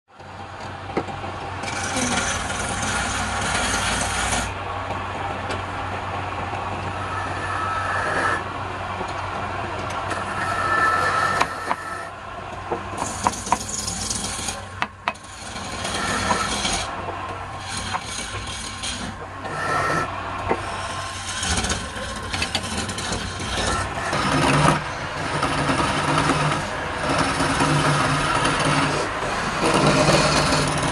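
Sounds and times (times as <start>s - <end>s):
steady low hum: 0.2s - 30.9s.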